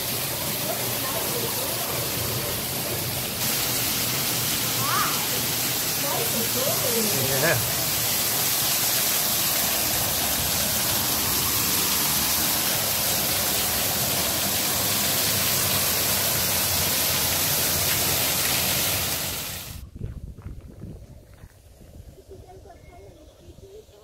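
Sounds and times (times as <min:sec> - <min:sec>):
waterfall splashing into pond: 0:00.0 - 0:19.8.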